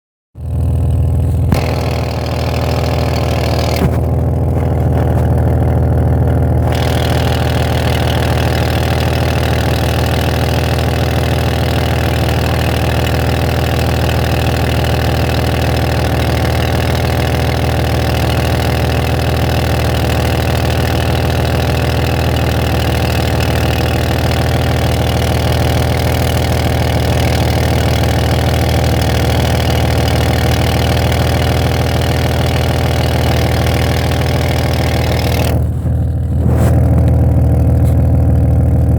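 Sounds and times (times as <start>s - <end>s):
van engine idling: 0.4s - 38.9s.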